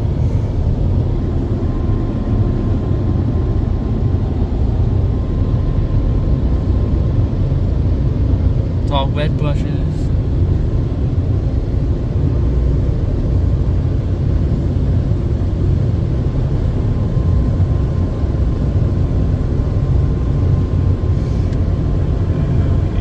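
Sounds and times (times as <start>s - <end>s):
car wash low rumble: 0.0s - 23.0s
faint steady whine: 0.0s - 23.0s.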